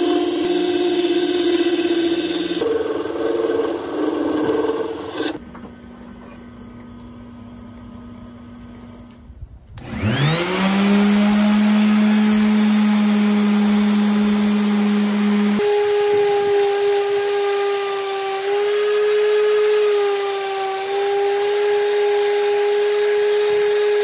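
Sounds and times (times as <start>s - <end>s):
wood lathe running: 0.0s - 5.4s, 9.8s - 24.0s
orbital sander whine: 0.0s - 5.5s, 7.2s - 24.0s.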